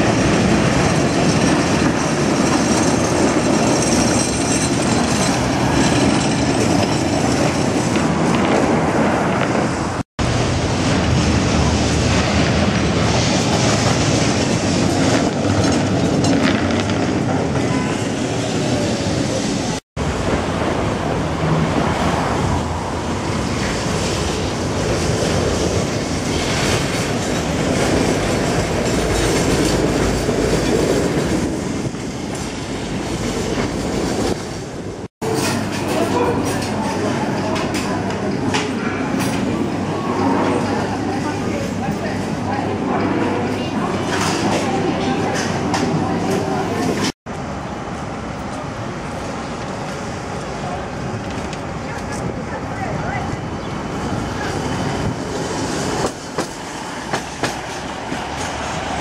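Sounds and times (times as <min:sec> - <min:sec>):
city traffic: 0:00.0 - 0:59.0
tram wheels rumbling on rails: 0:00.0 - 0:59.0.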